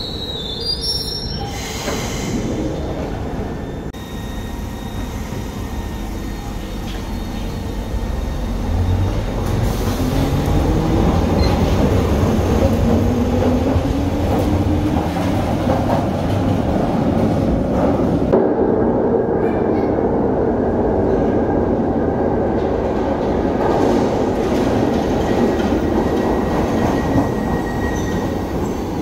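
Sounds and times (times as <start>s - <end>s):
wheels rumbling on rail: 1.8s - 29.0s.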